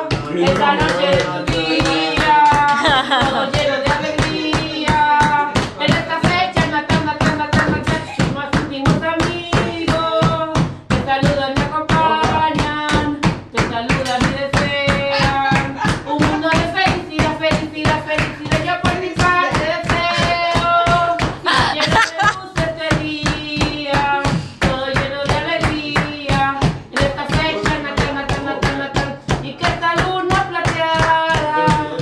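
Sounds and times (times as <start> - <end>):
group of people singing: 0.0 - 32.0
people clapping a steady beat: 0.0 - 32.0.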